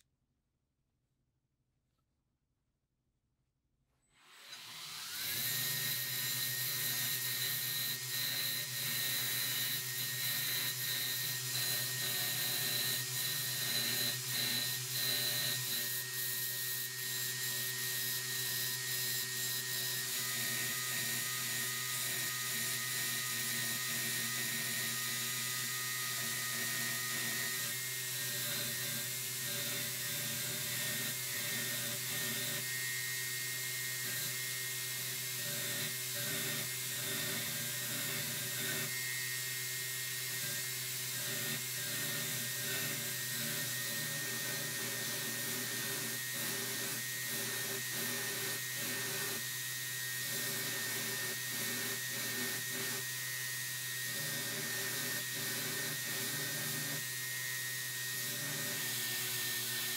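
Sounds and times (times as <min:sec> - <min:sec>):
belt grinder grinding steel: 0:04.2 - 0:59.9.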